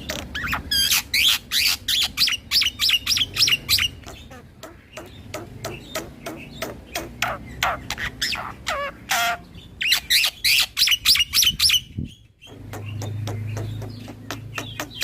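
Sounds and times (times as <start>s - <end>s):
starling chirping: 0.0s - 15.0s.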